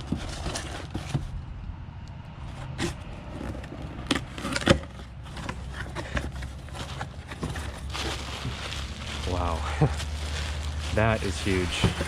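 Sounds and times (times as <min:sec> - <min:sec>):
cardboard box being opened: 0:00.0 - 0:01.4, 0:02.7 - 0:12.0
scrapes and light knocks: 0:00.0 - 0:01.4, 0:02.4 - 0:09.2, 0:09.9 - 0:12.0.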